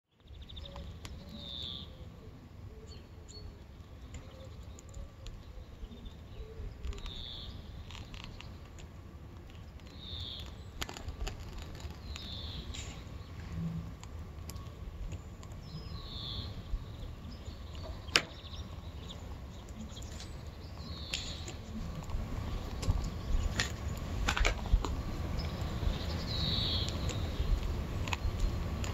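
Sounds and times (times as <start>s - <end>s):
steady low rumble: 3.4s - 28.9s.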